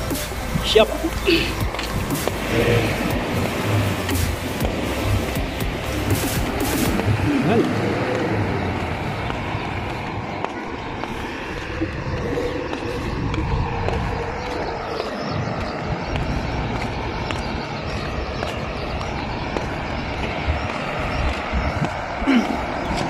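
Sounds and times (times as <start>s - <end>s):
faint outdoor background noise: 0.0s - 23.0s
wind rumbling on microphone: 0.0s - 23.0s.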